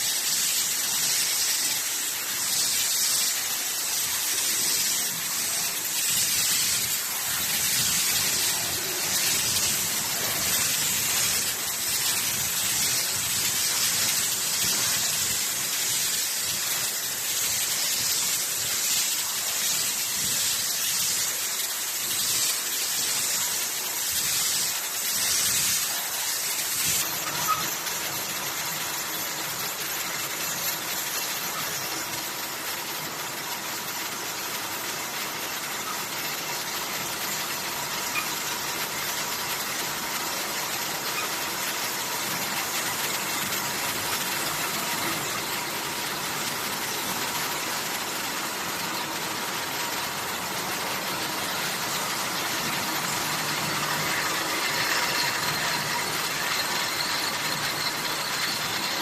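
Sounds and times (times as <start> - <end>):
pneumatic air hisses: 0.0 - 59.0
steady machine noise: 0.0 - 59.0.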